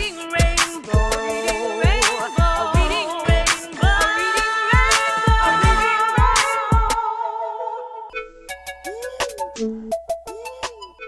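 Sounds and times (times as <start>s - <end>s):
hip hop music with beat: 0.0s - 7.0s, 8.4s - 11.0s.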